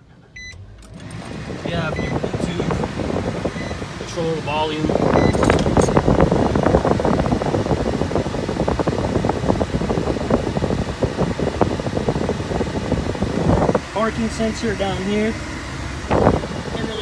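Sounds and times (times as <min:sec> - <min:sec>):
air rushing from vents: 0:00.0 - 0:17.0
car blower fan running: 0:00.0 - 0:17.0.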